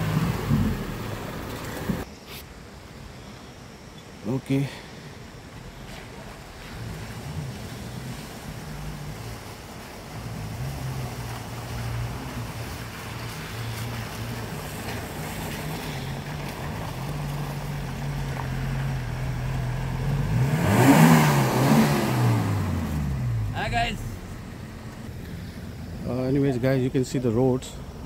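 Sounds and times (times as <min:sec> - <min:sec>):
off-road vehicle engine under load: 0:00.0 - 0:02.1, 0:03.1 - 0:28.0.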